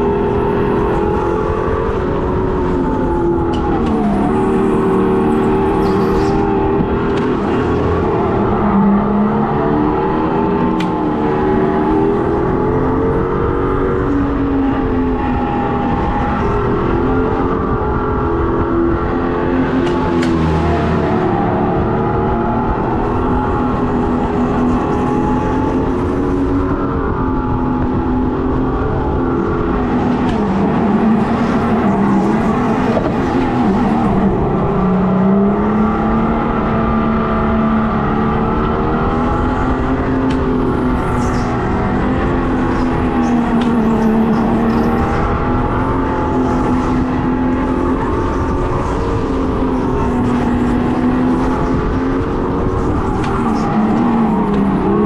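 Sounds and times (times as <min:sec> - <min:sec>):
constant rushing noise: 0:00.0 - 0:55.0
simulated engine sound from speaker: 0:00.0 - 0:55.0.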